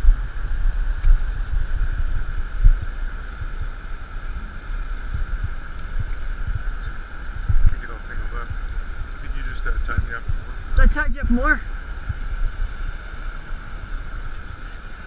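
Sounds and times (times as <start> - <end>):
running river water: 0.0 - 15.0
wind buffeting microphone: 0.0 - 15.0.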